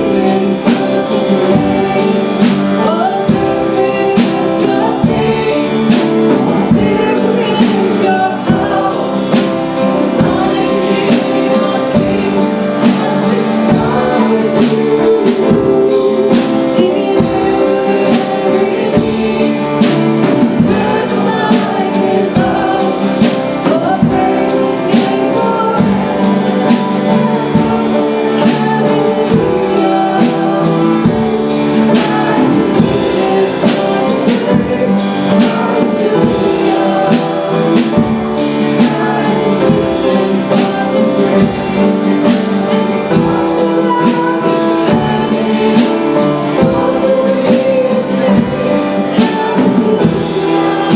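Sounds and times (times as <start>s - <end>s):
worship music with singing: 0.0s - 50.9s.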